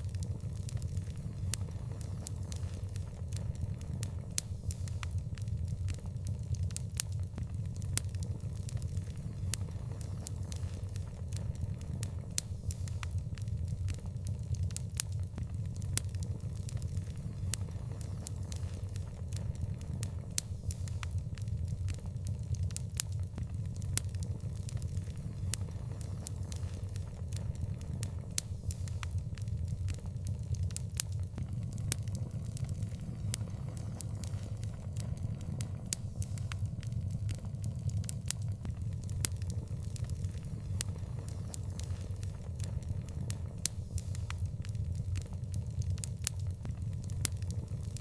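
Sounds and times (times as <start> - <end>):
fire crackling and popping: 0.0 - 48.0
low rumble of flames: 0.0 - 48.0.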